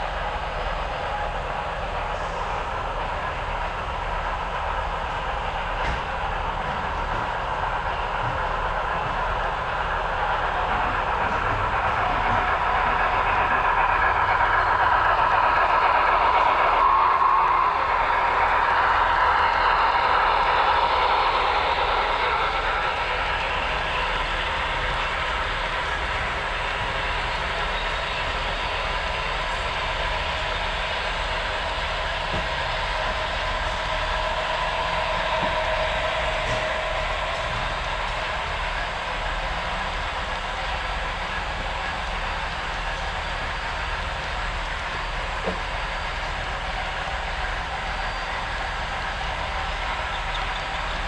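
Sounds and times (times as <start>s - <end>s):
model train rolling rumble: 0.0s - 51.0s.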